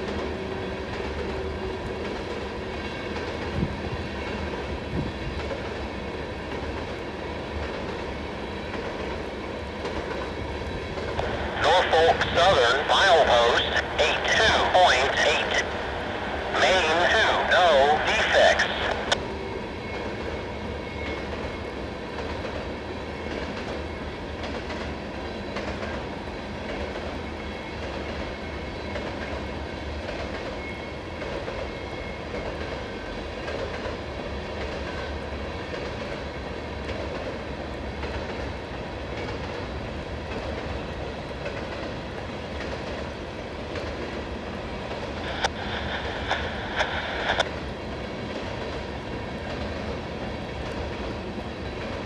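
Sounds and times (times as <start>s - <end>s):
freight train rolling past: 0.0s - 52.0s.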